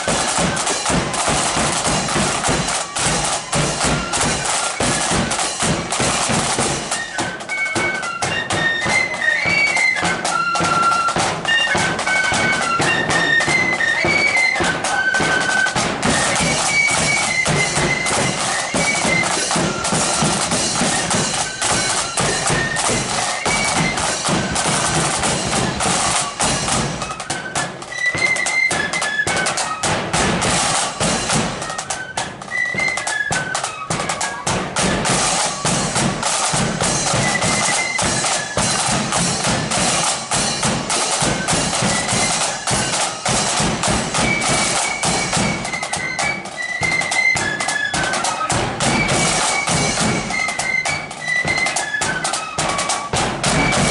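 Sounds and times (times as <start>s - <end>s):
flute melody: 0.0s - 53.9s
rapid snare drumming: 0.0s - 53.9s.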